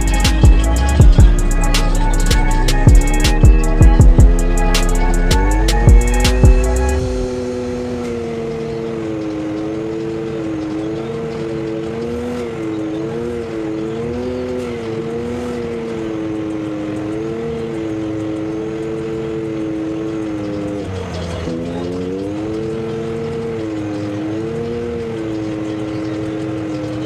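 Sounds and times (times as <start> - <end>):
vehicle engine cruising: 0.0 - 27.0.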